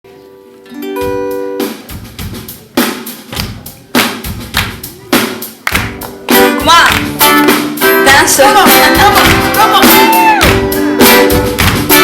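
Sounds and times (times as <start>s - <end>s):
drum kit playing: 0.8s - 12.0s.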